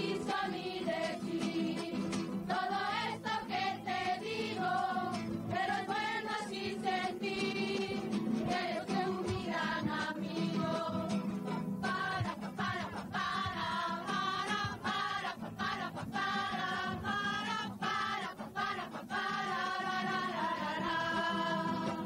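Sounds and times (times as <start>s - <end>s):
voices singing together: 0.0s - 22.0s.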